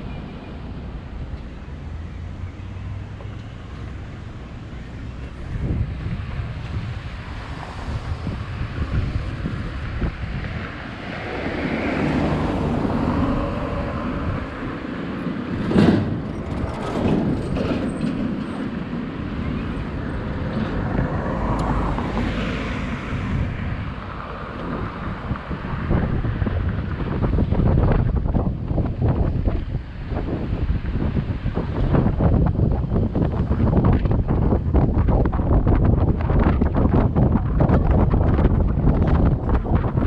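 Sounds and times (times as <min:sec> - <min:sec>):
street traffic noise: 0:00.0 - 0:40.0
wind buffeting microphone: 0:00.0 - 0:40.0.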